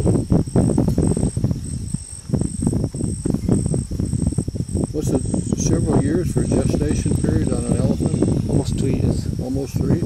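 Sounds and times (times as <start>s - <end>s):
insects chirping: 0.0s - 10.0s
low rumbling crackling noise: 0.0s - 10.0s.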